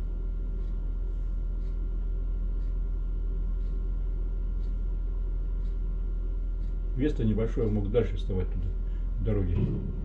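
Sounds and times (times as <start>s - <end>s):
faint ticking: 0.1s - 10.0s.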